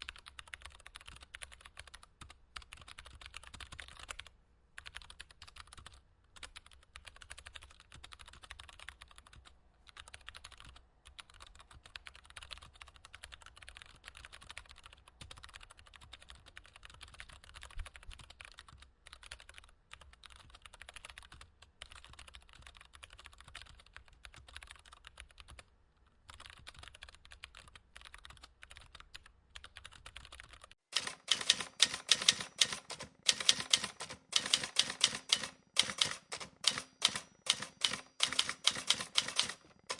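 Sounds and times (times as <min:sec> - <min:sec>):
typing on computer keyboard: 0:00.0 - 0:39.9.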